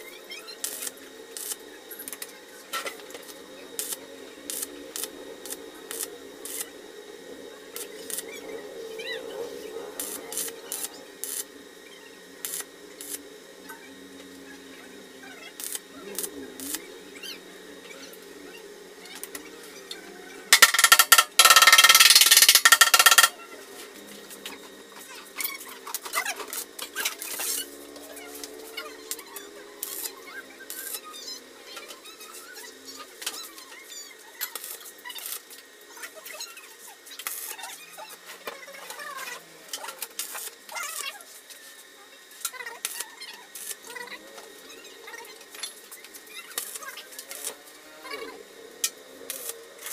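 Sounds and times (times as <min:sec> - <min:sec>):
welding arc crackling and hissing: 0:00.0 - 0:49.9.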